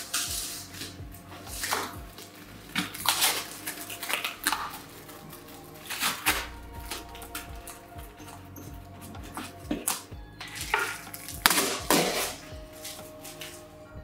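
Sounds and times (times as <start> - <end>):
packing tape ripping and crinkling: 0.0 - 13.8.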